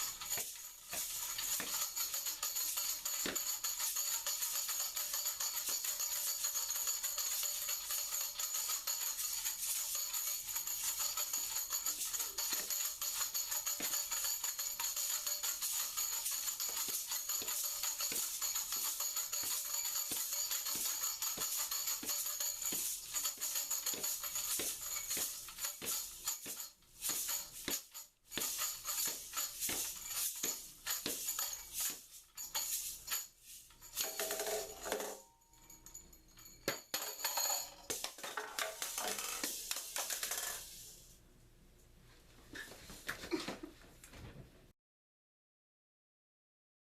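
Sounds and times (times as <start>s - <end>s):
music with jingling percussion: 0.0s - 40.7s.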